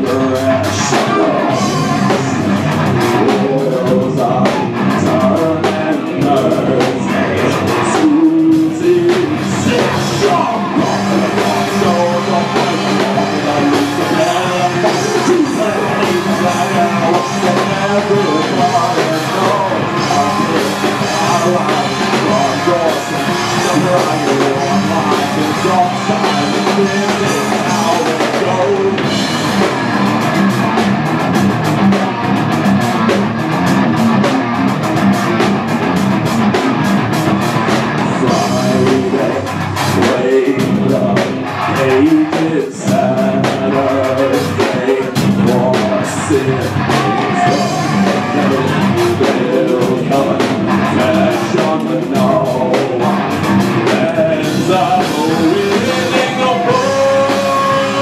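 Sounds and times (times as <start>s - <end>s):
man singing into a microphone: 0.0s - 29.8s, 37.8s - 58.0s
rock band playing live: 0.0s - 58.0s.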